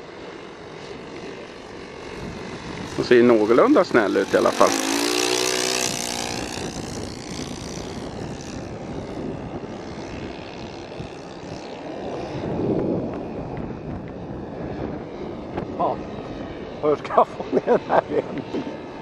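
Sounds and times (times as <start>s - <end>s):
model airplane motor and propeller: 0.0s - 19.0s.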